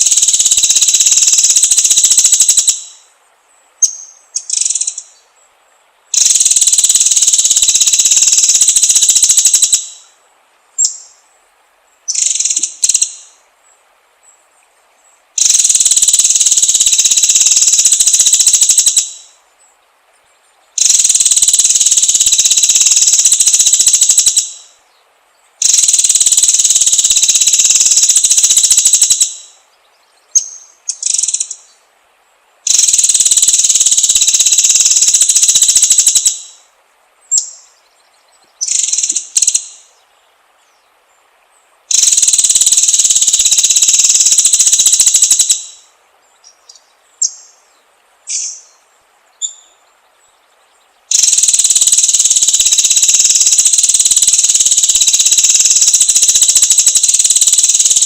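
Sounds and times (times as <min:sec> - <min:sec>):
songbird singing rapid trills: 0:00.0 - 0:10.2, 0:10.8 - 0:58.0.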